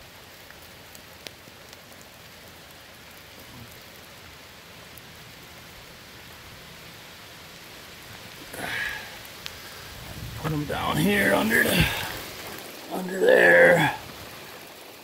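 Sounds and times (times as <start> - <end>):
raindrops tapping: 0.0 - 15.0
steady rain falling: 0.0 - 15.0.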